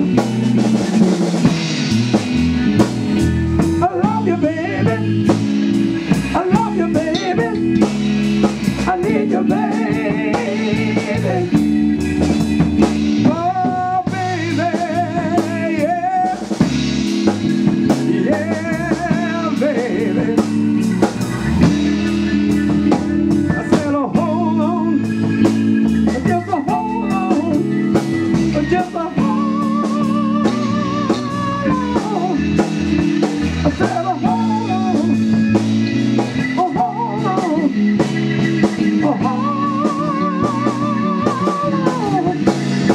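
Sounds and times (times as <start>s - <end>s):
bending lead guitar line: 0.0s - 42.9s
live blues band playing: 0.0s - 42.9s.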